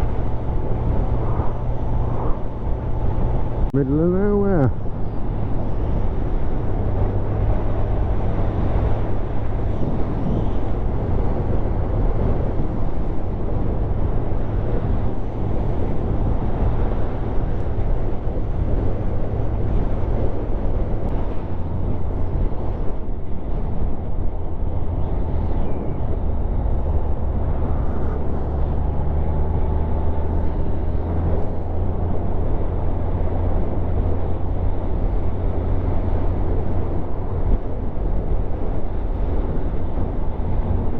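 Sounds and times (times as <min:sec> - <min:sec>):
motorcycle engine drone: 0:00.0 - 0:40.9
wind and road noise: 0:00.0 - 0:40.9.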